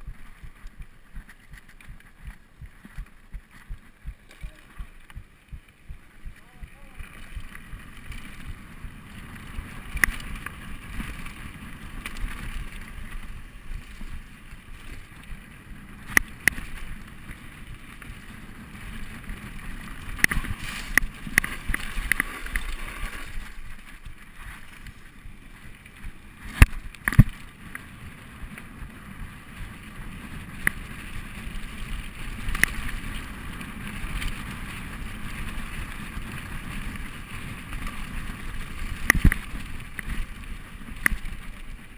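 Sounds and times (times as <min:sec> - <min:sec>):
bike clacking over bumps: 0:00.0 - 0:41.9
tyres rumbling on gravel: 0:00.0 - 0:41.9.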